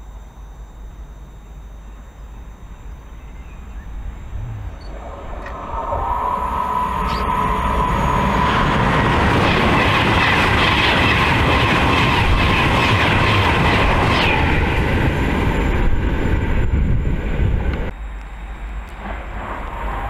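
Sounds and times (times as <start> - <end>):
high whine: 0.0 - 20.0
electric train passing at speed: 0.5 - 20.0.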